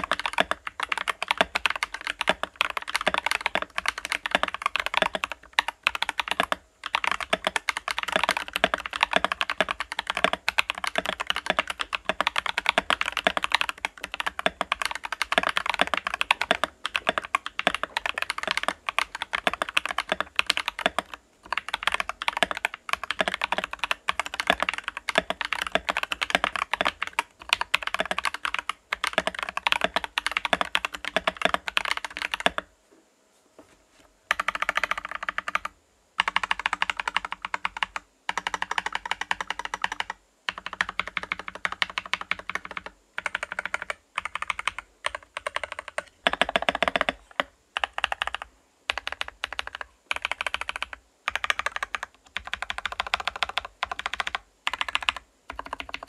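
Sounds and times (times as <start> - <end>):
fast mechanical keyboard typing: 0.0 - 32.7, 34.3 - 56.0.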